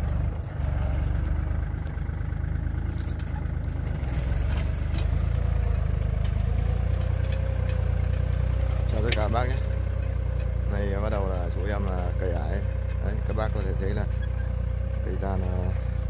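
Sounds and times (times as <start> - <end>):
tractor diesel engine rumbling: 0.0 - 16.0.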